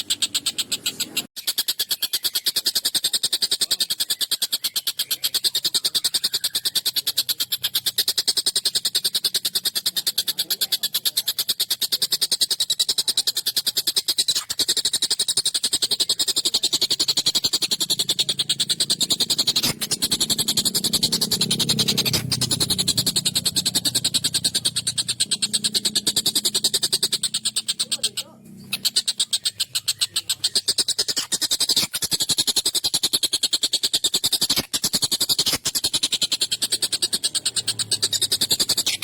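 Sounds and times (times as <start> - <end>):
kingfisher rattling call: 0.0 - 39.0.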